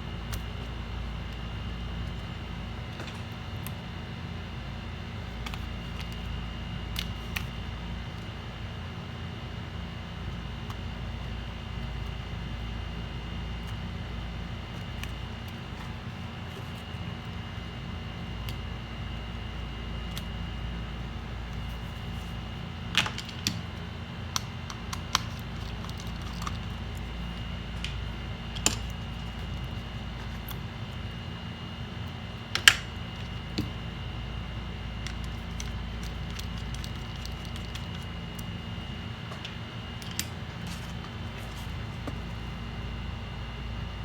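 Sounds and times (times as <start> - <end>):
background hum: 0.0 - 44.0.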